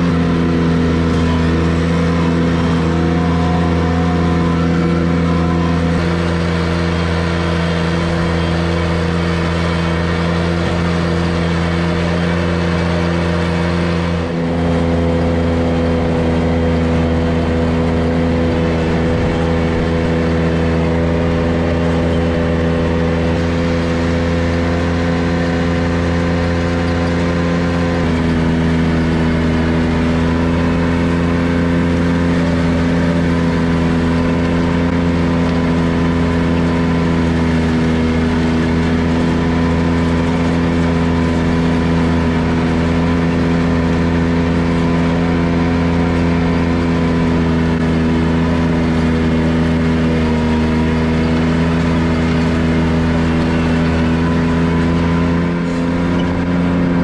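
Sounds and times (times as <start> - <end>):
mower deck cutting grass: 0.0 - 57.0
tractor engine running under load: 0.0 - 57.0.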